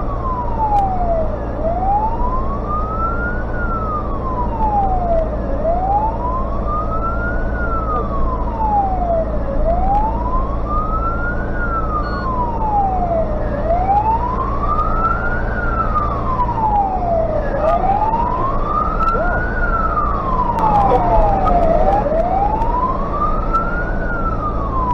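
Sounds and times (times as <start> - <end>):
fire truck siren wailing: 0.0 - 24.9
truck engine droning: 0.0 - 24.9.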